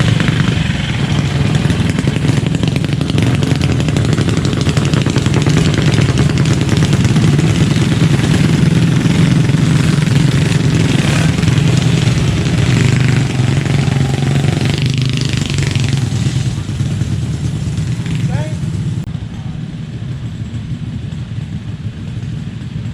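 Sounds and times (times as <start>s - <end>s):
minibike engine running steadily: 0.0s - 22.9s.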